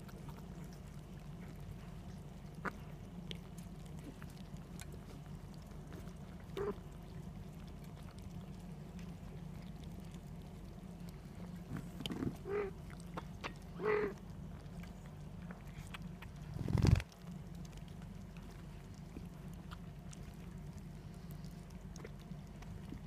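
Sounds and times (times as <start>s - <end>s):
kittens lapping milk: 0.0s - 23.0s.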